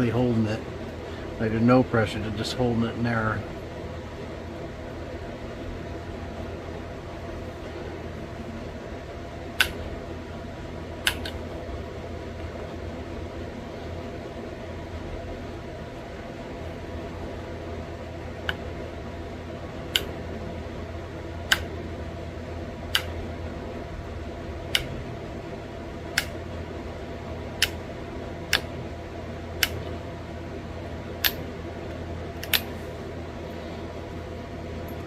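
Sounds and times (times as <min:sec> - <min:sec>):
steady fan hum: 0:00.0 - 0:35.0.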